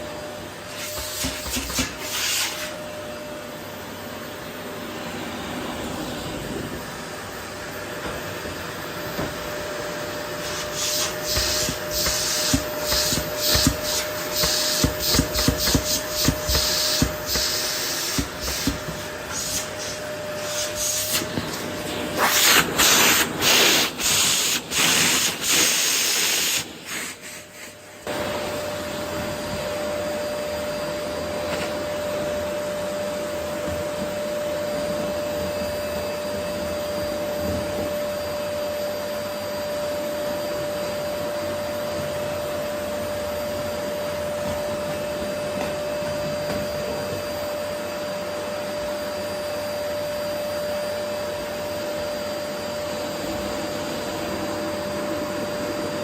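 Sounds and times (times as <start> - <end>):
vacuum cleaner motor whine: 0.0 - 56.0.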